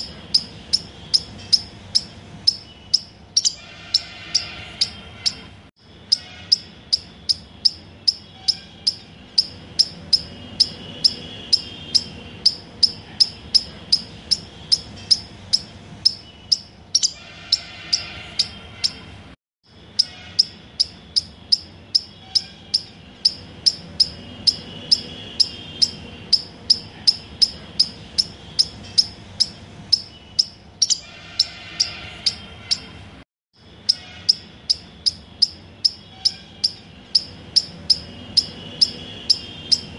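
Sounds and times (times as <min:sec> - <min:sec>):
high-pitched chirping: 0:00.0 - 0:33.0, 0:33.6 - 0:39.9.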